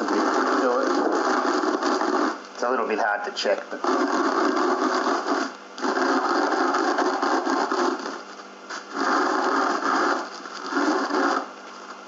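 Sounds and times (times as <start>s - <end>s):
rolling pin crunching grain: 0.0s - 2.8s, 3.8s - 12.0s.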